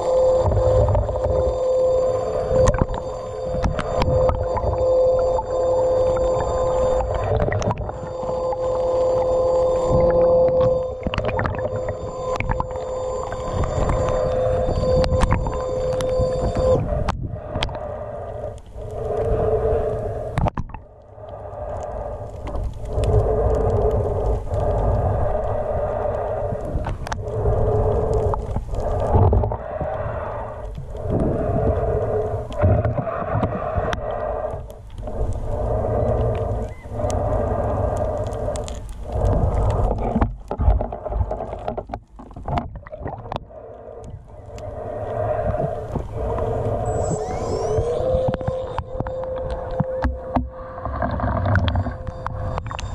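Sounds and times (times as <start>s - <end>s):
muffled underwater water noise: 0.0s - 52.9s.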